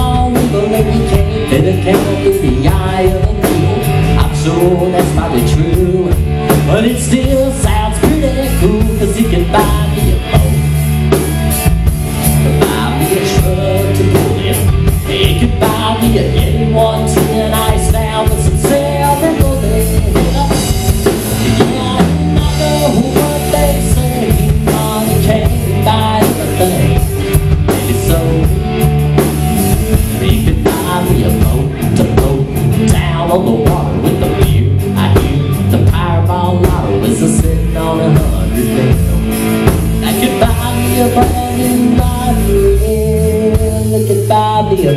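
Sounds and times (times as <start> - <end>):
drum kit: 0.0 - 44.9
electric bass: 0.0 - 44.9
electric guitar: 0.0 - 44.9.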